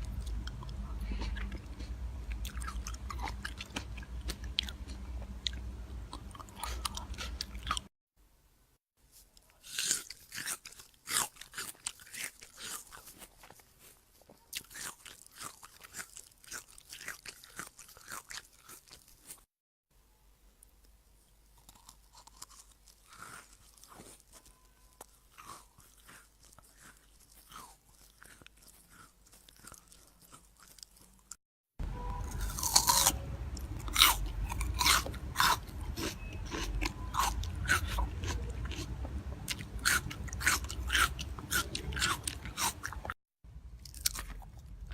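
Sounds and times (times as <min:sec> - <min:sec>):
chewing crunchy food: 0:00.0 - 0:07.9, 0:09.2 - 0:19.5, 0:21.2 - 0:31.4, 0:32.0 - 0:43.2, 0:43.8 - 0:44.9.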